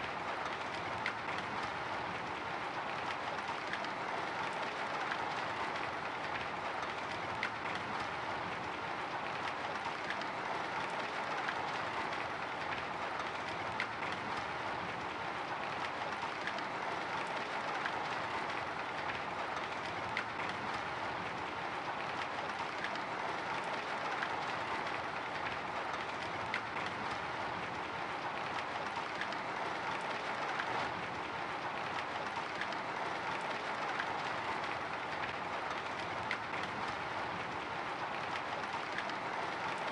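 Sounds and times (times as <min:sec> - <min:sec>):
drizzle pattering on a window: 0:00.0 - 0:39.9.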